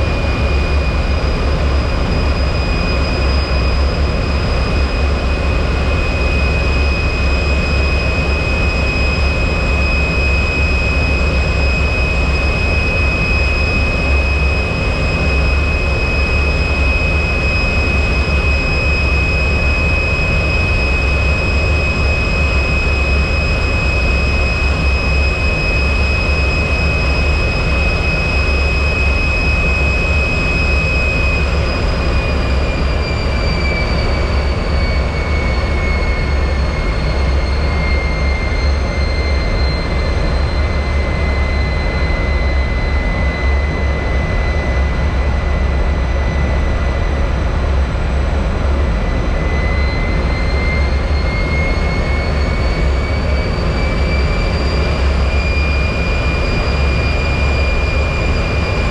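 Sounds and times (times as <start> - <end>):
jet engine rumble and whine: 0.0 - 58.9.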